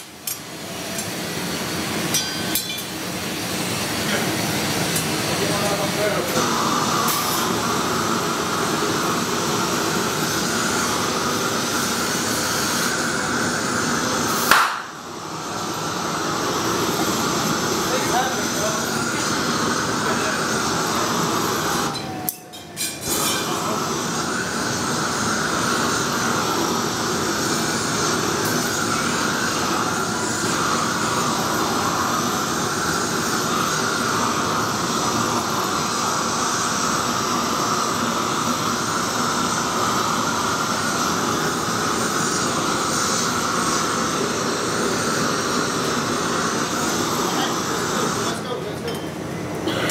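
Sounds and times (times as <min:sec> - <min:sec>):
gas burners roaring hiss: 0:00.0 - 0:49.9
hand-held gas torch: 0:00.0 - 0:49.9.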